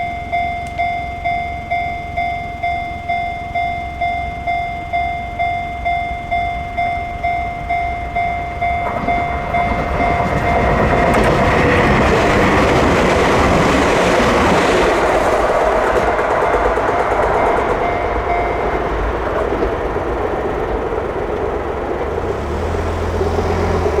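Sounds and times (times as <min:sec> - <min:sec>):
level crossing alarm pulsing: 0:00.0 - 0:24.0
train passing with wheel clatter: 0:00.0 - 0:24.0.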